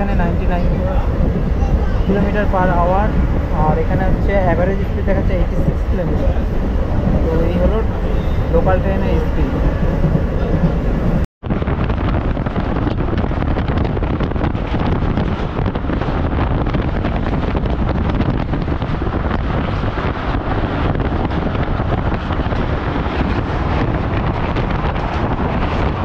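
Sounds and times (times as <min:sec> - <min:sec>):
train running on a bridge: 0:00.0 - 0:26.0
wind buffeting microphone: 0:00.0 - 0:26.0.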